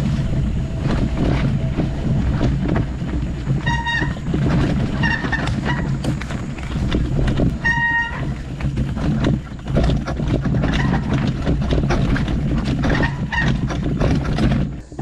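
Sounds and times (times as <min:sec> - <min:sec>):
bike rattling and clattering: 0:00.0 - 0:15.0
wind rumble on microphone: 0:00.0 - 0:15.0.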